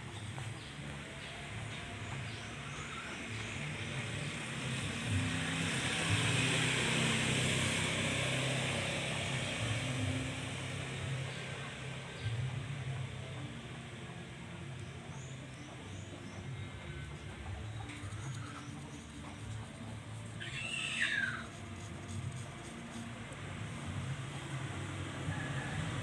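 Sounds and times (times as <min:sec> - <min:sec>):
vehicle engine passing by: 0:00.0 - 0:26.0.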